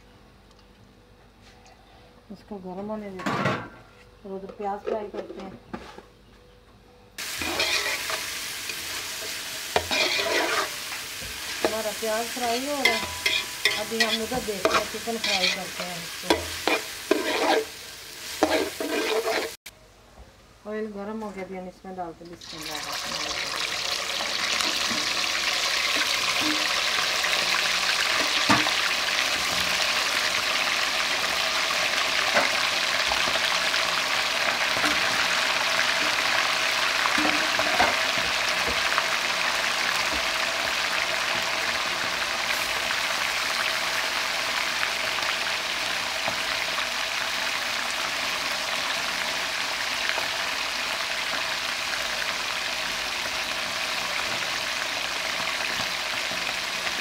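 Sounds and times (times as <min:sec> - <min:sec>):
chicken deep-frying in oil: 0:07.2 - 0:19.6, 0:22.4 - 0:57.0.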